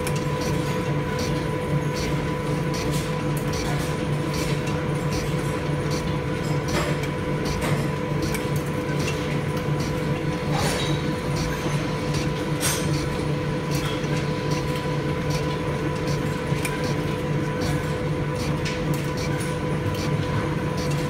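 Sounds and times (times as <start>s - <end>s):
lathe mechanical hum: 0.0s - 21.0s.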